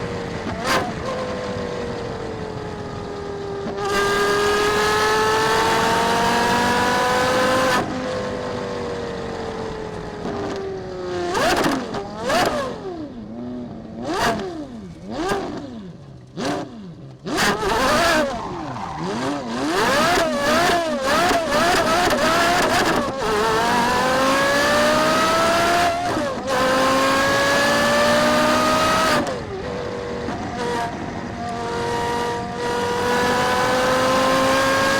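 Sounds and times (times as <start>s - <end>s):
car engine revving through gears: 0.0s - 8.4s, 10.2s - 34.9s.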